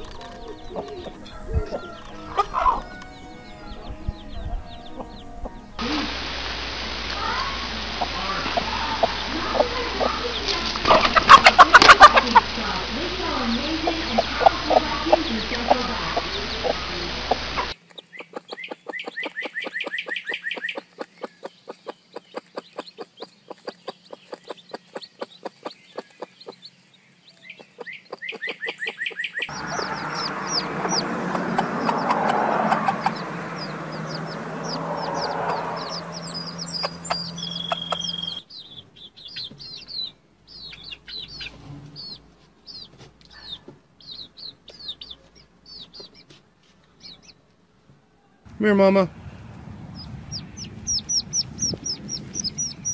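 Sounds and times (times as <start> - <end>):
hens clucking: 0.0 - 3.0, 7.7 - 47.4
chicks peeping: 0.0 - 6.1, 7.2 - 47.5, 48.6 - 52.9.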